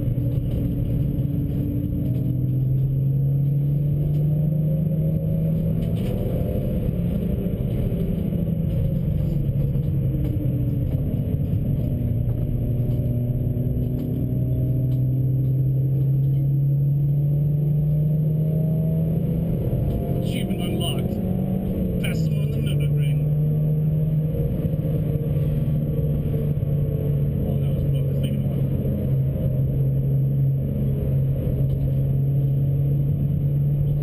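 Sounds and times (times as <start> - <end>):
car engine under hard driving: 0.0 - 34.0.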